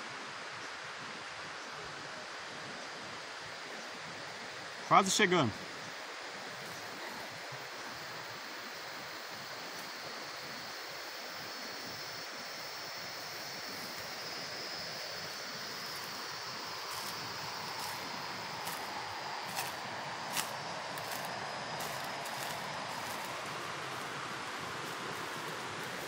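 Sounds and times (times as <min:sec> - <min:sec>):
river rushing over rocks: 0:00.2 - 0:26.0.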